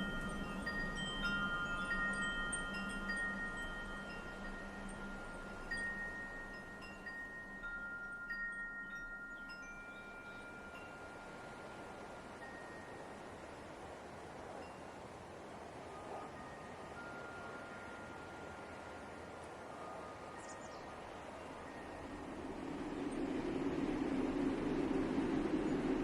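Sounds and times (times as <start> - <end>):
wind chimes ringing: 0.0 - 25.6
soft wind rush: 0.0 - 26.0.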